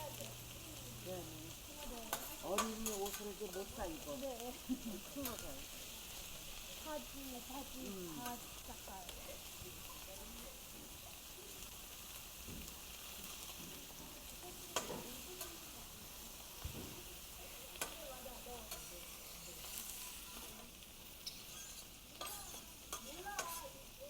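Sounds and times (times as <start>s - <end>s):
meat sizzling on griddle: 0.0s - 24.0s
utensils clicking on hot plate: 0.0s - 24.0s.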